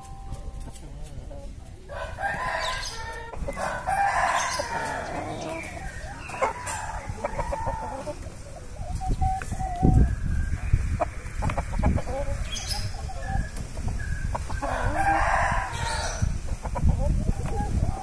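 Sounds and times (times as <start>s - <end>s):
roosters crowing and clucking: 0.0s - 18.0s.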